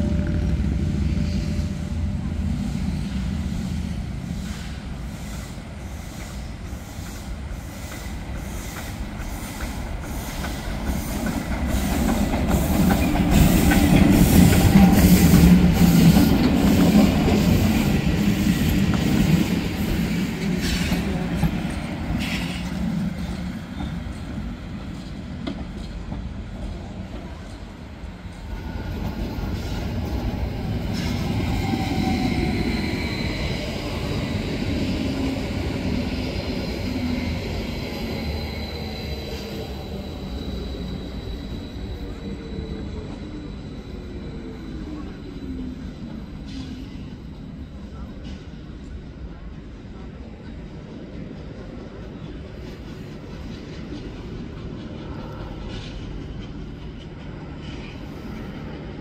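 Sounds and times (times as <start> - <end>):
carriages rumbling over rails: 0.0 - 59.0.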